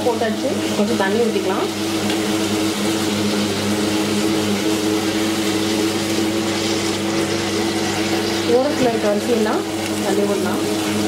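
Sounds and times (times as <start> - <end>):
wet grinder motor humming: 0.0 - 11.0.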